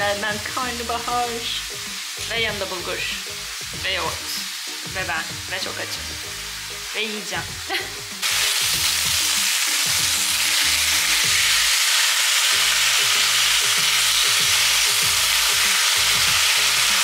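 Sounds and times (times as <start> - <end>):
music playing: 0.0 - 11.8, 12.5 - 17.0
food sizzling in hot oil: 0.0 - 17.0.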